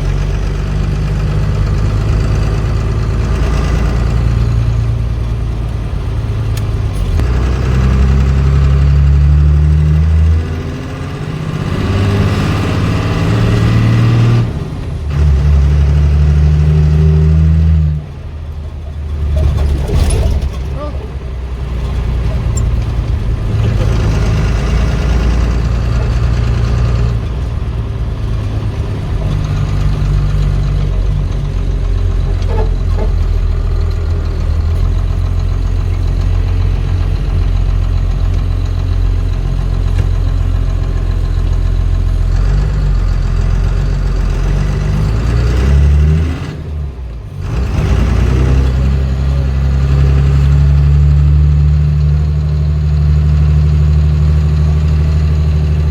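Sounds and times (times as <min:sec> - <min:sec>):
diesel truck engine revving: 0:00.0 - 0:55.9.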